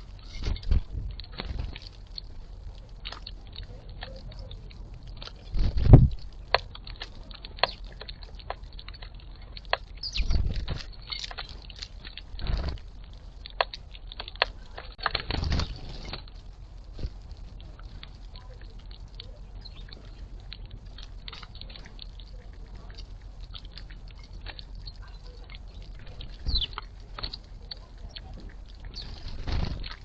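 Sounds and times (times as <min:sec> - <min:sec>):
bird pecking and cracking seed: 0:00.0 - 0:30.0
low bumps: 0:00.0 - 0:30.0.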